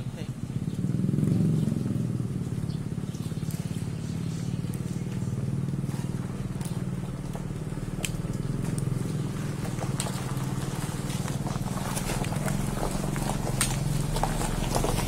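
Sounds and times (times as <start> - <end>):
small engine running: 0.2 - 15.0.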